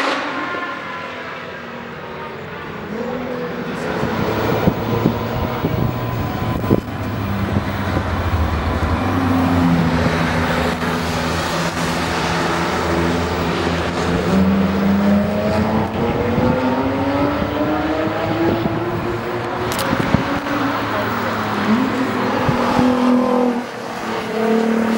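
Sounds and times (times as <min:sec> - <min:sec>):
road and wind rush: 0:00.0 - 0:24.9
car engine under load: 0:02.5 - 0:24.9.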